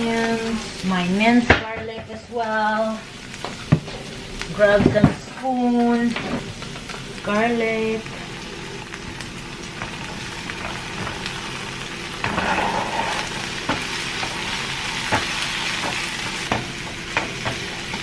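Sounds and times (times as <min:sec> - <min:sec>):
onions sizzling in frying pan: 0:00.0 - 0:18.0.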